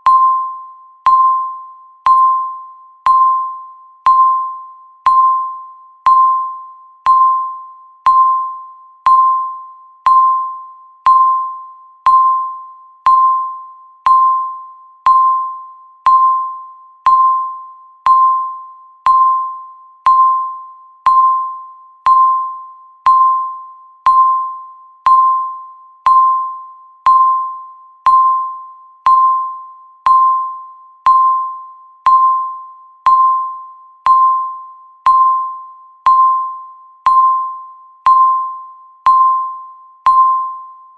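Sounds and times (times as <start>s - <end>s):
countdown timer beeps: 0.0s - 40.9s.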